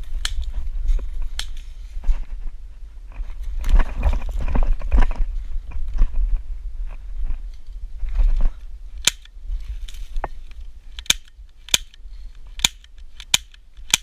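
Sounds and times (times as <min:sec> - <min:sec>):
low microphone rumble: 0:00.0 - 0:13.2.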